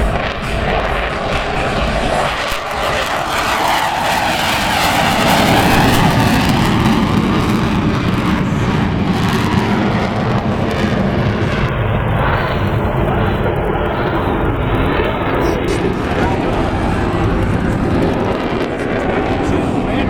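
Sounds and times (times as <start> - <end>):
loud jet engine noise: 0.0 - 20.0.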